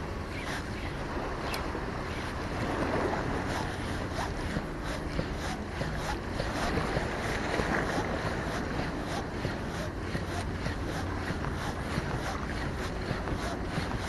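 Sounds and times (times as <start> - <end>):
fishing reel ticking: 0.0 - 14.0
sea waves washing: 0.0 - 14.0
wind on microphone: 0.0 - 14.0
fishing rod cast swish: 0.3 - 14.0.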